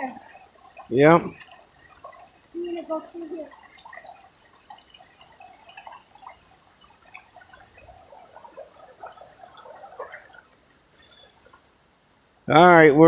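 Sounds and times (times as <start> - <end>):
water splashes and drips: 0.0 - 11.9
water trickling through drain: 0.0 - 12.4.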